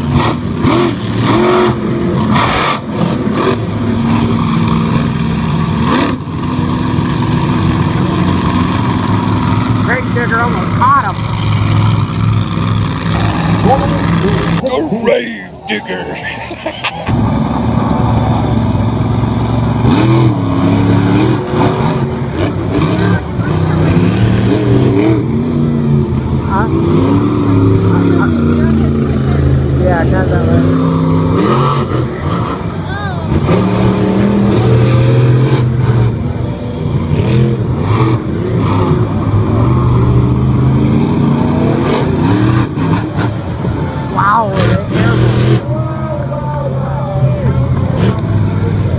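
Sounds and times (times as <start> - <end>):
monster truck engine revving: 0.0 - 48.9.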